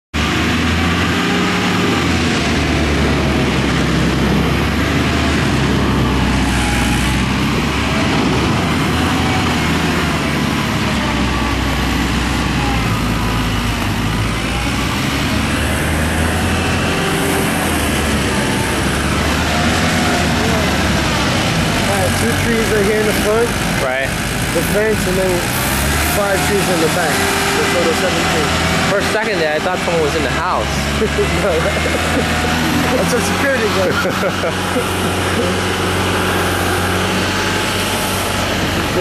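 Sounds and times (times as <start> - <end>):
large engine rumbling: 0.1 - 39.0.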